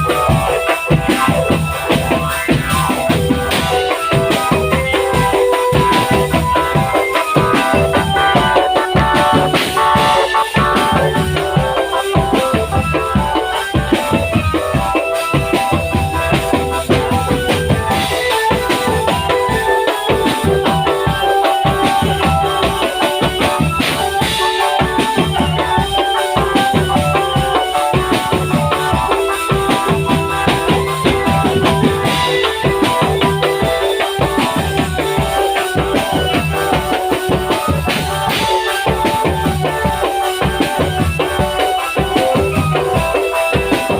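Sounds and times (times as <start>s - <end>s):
bass and snare drum beat: 0.0s - 43.9s
melodic instruments playing tune: 0.0s - 43.9s.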